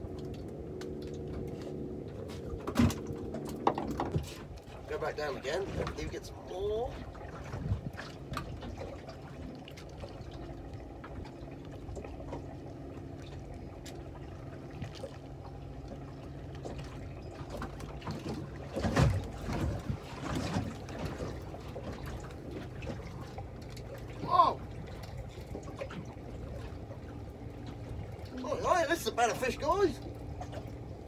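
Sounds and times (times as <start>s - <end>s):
low engine hum: 0.0s - 31.0s
water lapping against boat hull: 0.0s - 31.0s
water splashes: 0.0s - 31.0s.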